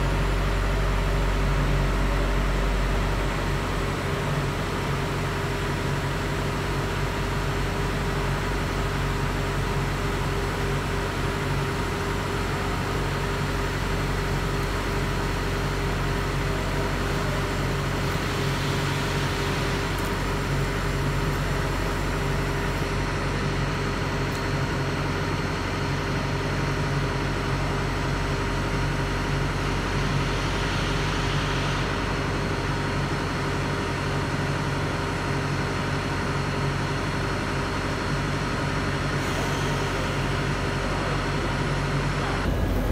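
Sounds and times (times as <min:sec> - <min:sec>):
electric bus humming: 0:00.0 - 0:35.9, 0:37.1 - 0:42.9.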